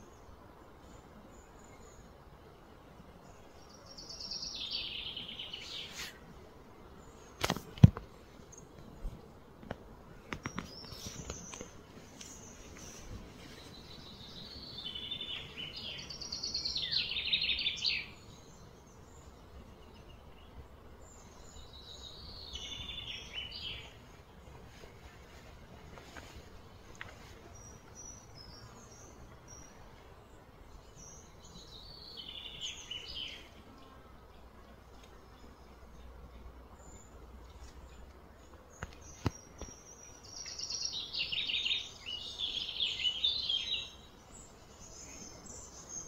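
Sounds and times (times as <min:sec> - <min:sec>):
songbird singing: 0:00.0 - 0:46.0.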